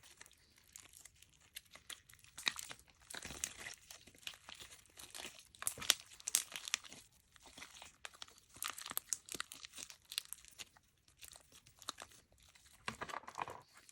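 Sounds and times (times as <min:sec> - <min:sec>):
slime clicking and crackling: 0:00.0 - 0:12.9.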